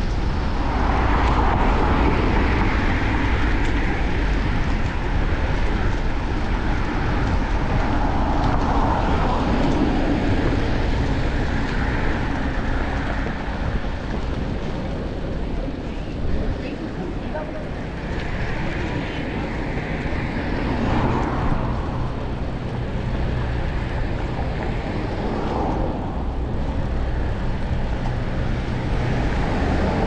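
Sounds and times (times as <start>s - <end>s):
city traffic passing: 0.0s - 30.0s
wind noise on microphone: 0.0s - 30.0s.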